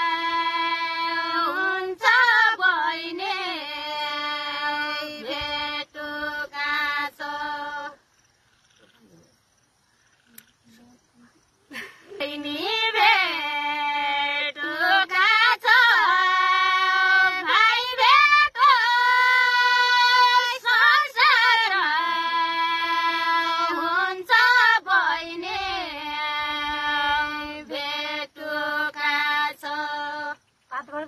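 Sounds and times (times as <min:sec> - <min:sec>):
girl singing unaccompanied: 0:00.0 - 0:08.0, 0:12.1 - 0:31.0.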